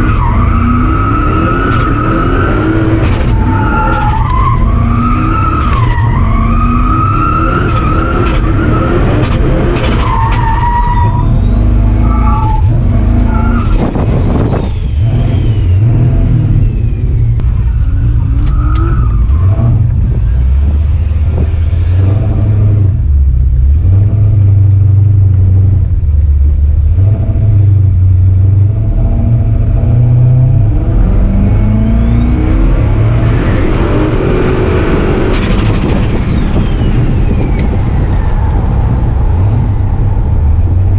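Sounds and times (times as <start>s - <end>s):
truck engine revving high: 0.0s - 25.8s, 26.8s - 40.9s.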